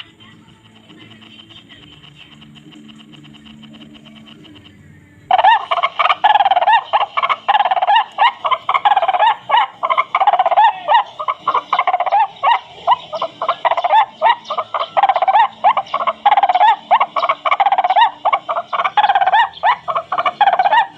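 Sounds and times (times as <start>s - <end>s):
recorded bird chirping: 0.0s - 20.9s.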